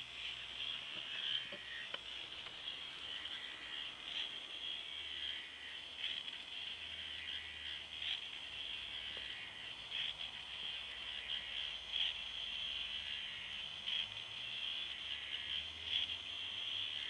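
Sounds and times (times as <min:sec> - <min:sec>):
electric motor and gears whirring: 0:00.0 - 0:17.0.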